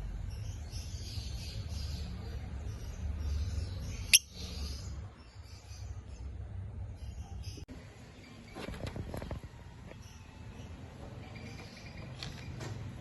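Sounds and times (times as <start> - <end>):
bird chirp: 0.0 - 12.9.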